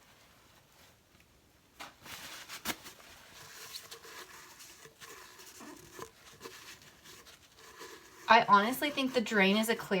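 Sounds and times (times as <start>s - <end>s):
paper towel rubbing: 2.0s - 10.0s.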